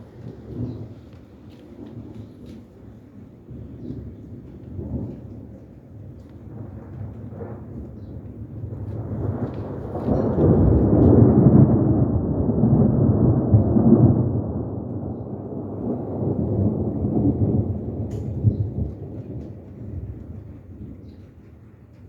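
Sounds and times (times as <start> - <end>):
thunder rumbling: 0.0 - 21.3.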